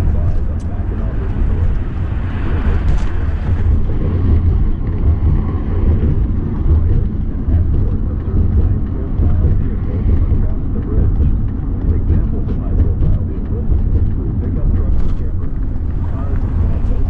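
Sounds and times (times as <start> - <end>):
motorhome engine rumble: 0.0 - 17.0.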